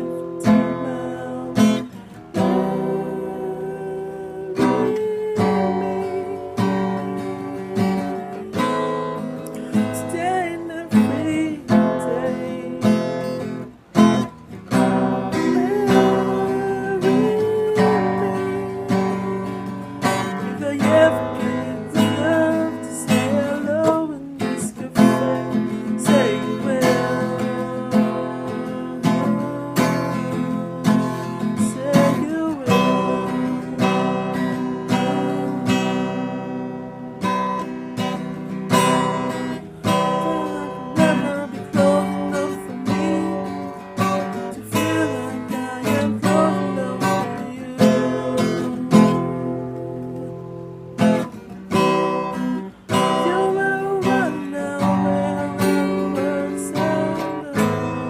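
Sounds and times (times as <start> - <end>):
person singing: 0.0 - 36.8, 38.7 - 58.0
acoustic guitar strumming: 0.0 - 58.0.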